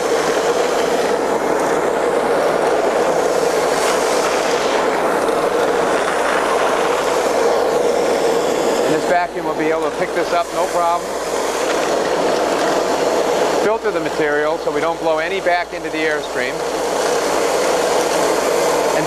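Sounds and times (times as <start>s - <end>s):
air-powered vacuum rushing: 0.0s - 19.0s.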